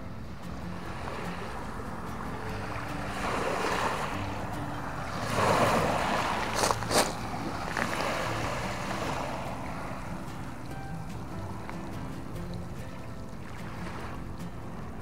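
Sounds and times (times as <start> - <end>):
small waves washing onto shore: 0.0 - 15.0.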